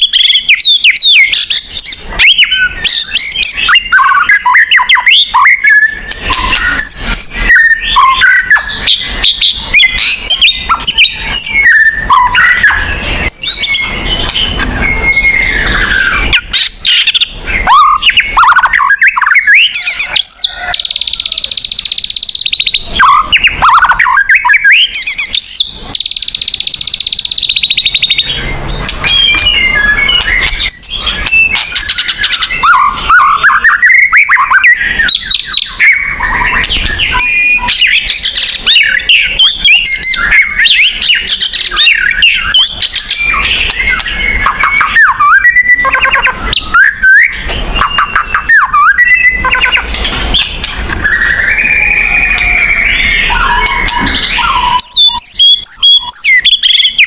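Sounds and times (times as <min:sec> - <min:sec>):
bird singing whistled song: 0:00.0 - 0:57.0.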